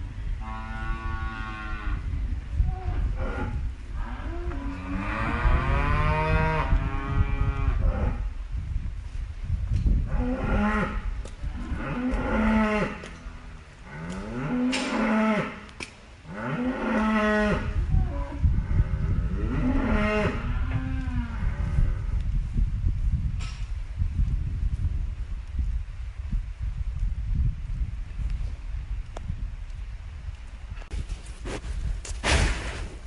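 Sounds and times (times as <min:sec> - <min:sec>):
steady low rumble: 0:00.0 - 0:12.4, 0:17.6 - 0:33.0.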